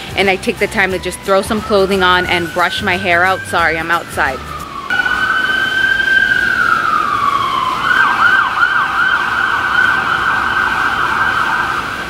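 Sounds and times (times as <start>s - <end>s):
emergency siren wailing and yelping: 0.8s - 12.0s.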